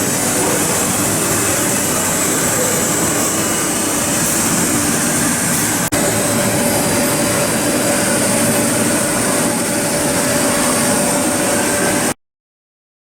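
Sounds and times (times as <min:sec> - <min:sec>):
high machine whine: 0:00.0 - 0:12.2
lathe hissing and humming: 0:00.0 - 0:12.2.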